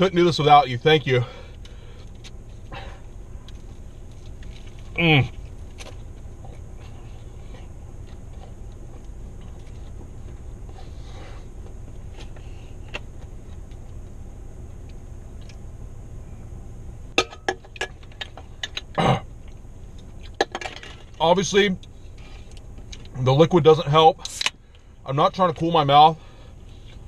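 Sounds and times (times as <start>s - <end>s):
car cabin hum: 0.0s - 27.0s.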